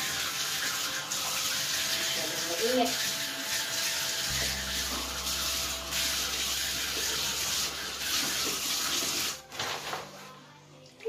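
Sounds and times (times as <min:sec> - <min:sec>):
water pouring into bathtub: 0:00.0 - 0:09.4.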